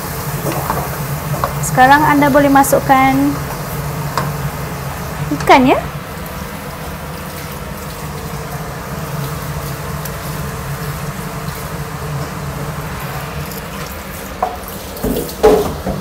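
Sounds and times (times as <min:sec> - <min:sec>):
sauce sizzling in a wok: 0:00.0 - 0:16.0.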